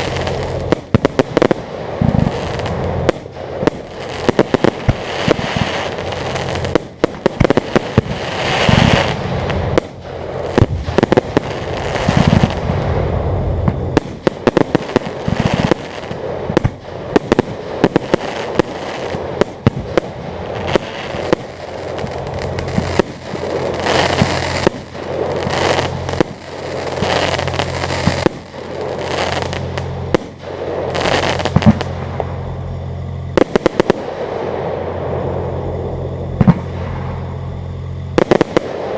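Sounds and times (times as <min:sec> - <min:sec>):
fireworks cracking and popping: 0:00.0 - 0:38.9
low hum: 0:00.0 - 0:38.9.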